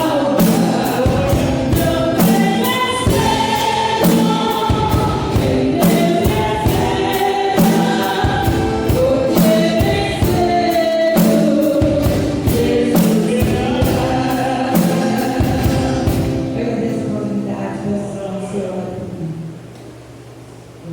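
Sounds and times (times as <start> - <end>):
choir singing gospel: 0.0 - 17.4
band playing: 0.0 - 17.6.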